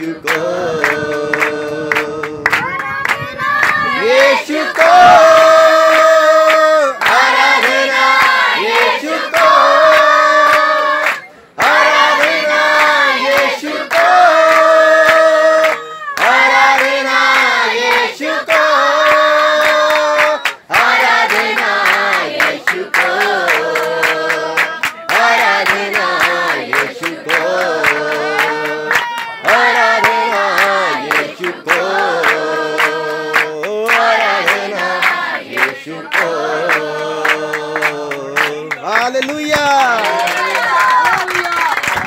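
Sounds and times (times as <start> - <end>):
group singing worship song: 0.0 - 38.8
hand clapping: 0.2 - 42.0.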